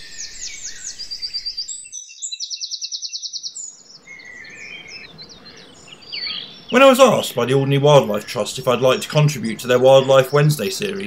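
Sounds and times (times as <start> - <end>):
fast bird trill: 0.0 - 11.0
songbirds chirping and whistling: 0.0 - 11.0.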